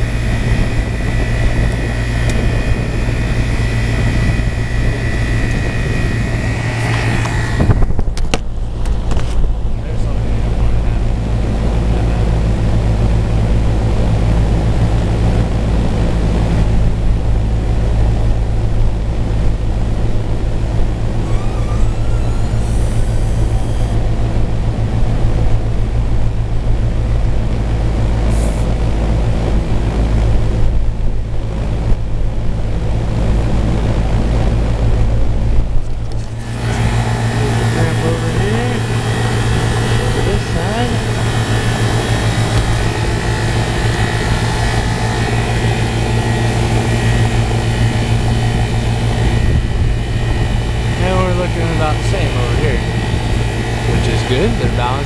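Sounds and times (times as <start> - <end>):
air conditioner fans blowing: 0.0 - 55.0
compressor hum: 0.0 - 55.0.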